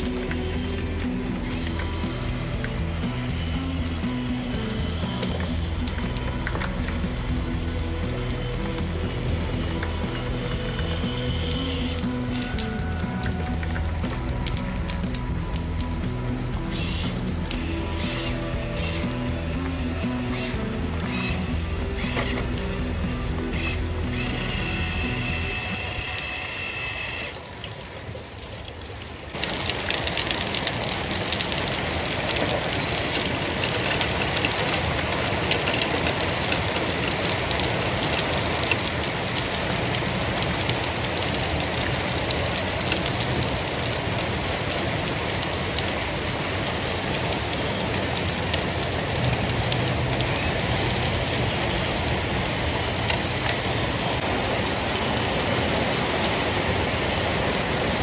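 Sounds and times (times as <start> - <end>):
heavy rain on wet paving: 0.0 - 58.0.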